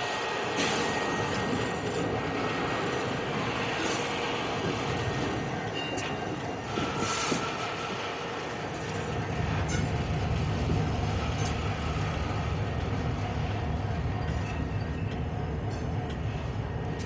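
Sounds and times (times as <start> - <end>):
diesel locomotive rumbling: 0.0 - 17.0
high-pitched train sounds: 0.0 - 17.0.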